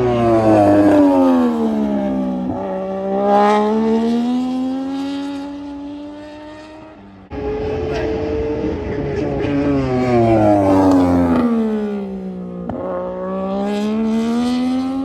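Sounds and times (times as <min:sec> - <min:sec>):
racing motorcycle engine revving: 0:00.0 - 0:15.0.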